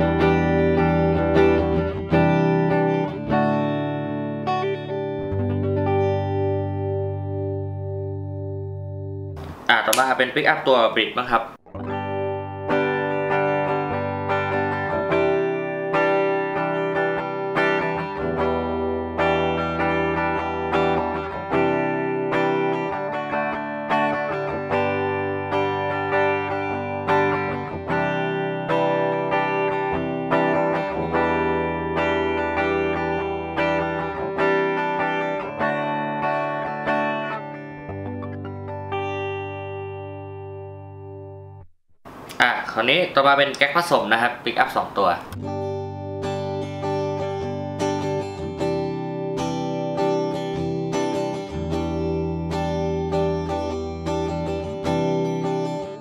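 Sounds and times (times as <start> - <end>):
clean electric guitar chords: 0.0 - 10.4, 11.6 - 42.4, 45.3 - 56.0.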